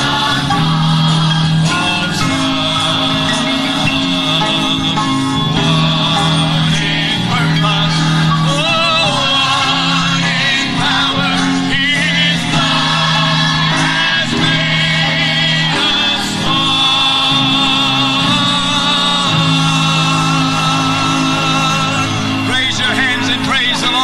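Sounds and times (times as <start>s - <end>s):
congregation singing a hymn: 0.0s - 24.0s
instrumental accompaniment: 0.0s - 24.0s.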